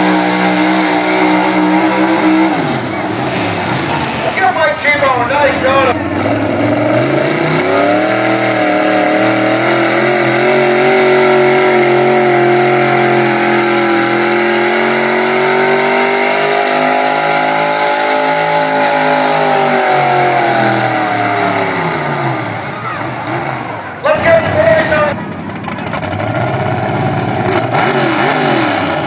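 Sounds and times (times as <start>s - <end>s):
truck engine revving high: 0.0s - 29.0s.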